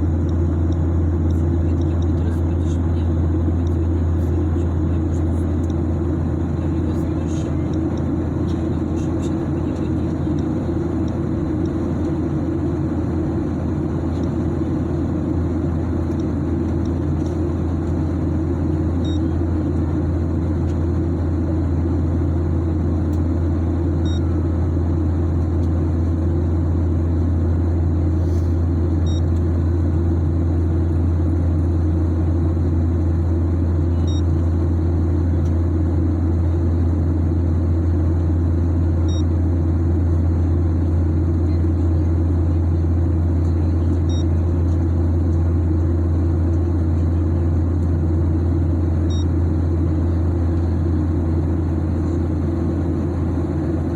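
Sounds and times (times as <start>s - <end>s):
airliner cabin engine drone: 0.0s - 53.9s.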